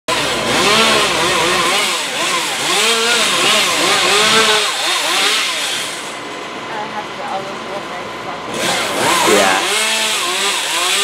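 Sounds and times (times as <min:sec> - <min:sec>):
chainsaw cutting and revving: 0:00.1 - 0:06.5, 0:08.4 - 0:11.0.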